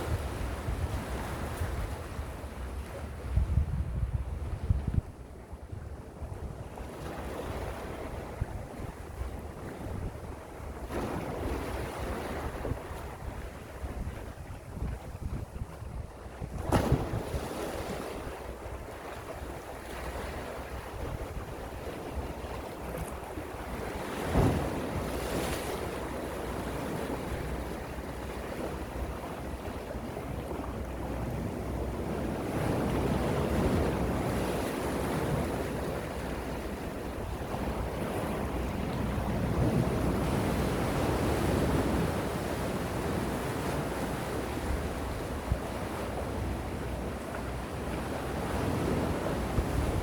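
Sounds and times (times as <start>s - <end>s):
wind buffeting microphone: 0.0s - 50.0s
sea waves washing in: 6.8s - 50.0s.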